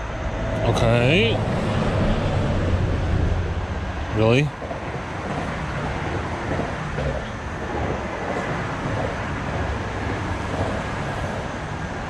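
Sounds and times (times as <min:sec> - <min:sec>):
road traffic rumble overhead: 0:00.0 - 0:12.0.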